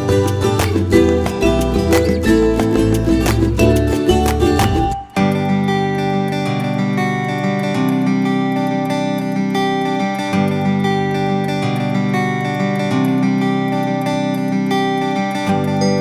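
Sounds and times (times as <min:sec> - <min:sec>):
acoustic guitar strummed chords: 0:00.0 - 0:16.0.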